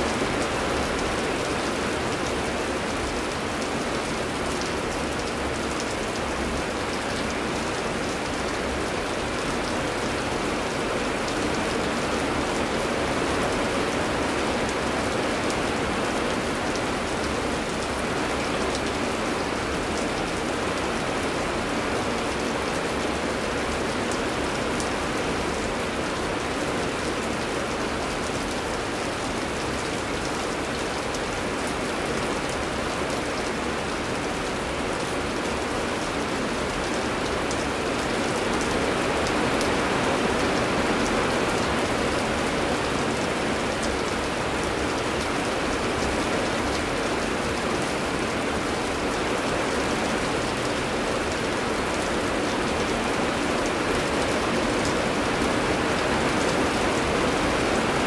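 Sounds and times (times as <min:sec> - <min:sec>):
rain drops ticking: 0:00.0 - 0:58.0.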